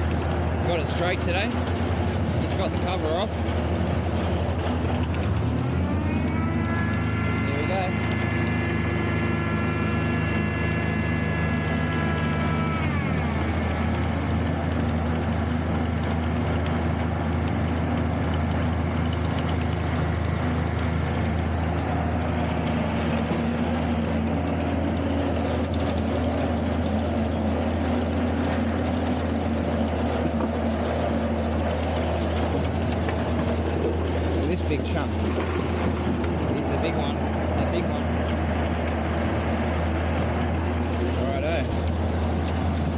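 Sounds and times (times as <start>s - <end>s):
diesel engine low drone: 0.0s - 42.9s
higher engine note: 0.0s - 42.9s.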